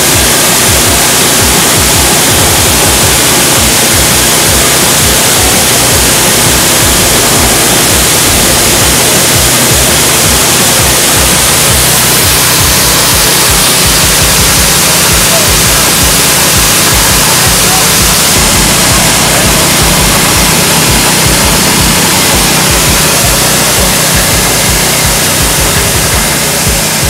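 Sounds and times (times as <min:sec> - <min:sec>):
coffee huller machine running: 0:00.0 - 0:27.0.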